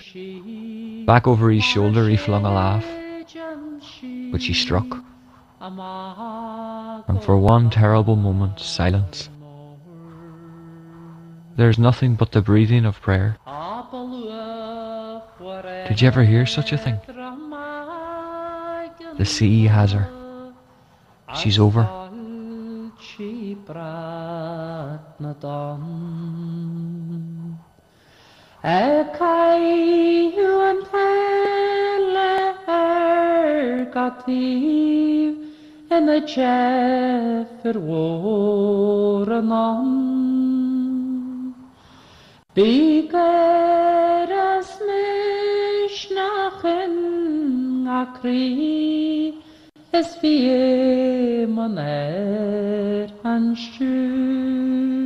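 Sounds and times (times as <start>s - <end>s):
woman singing unaccompanied: 0.0s - 11.8s, 13.4s - 20.7s, 21.3s - 27.8s, 28.6s - 41.8s, 42.5s - 55.0s.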